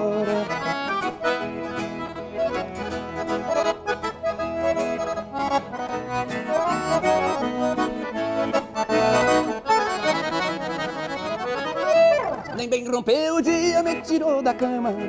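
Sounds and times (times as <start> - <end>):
accordion folk music: 0.0 - 15.0.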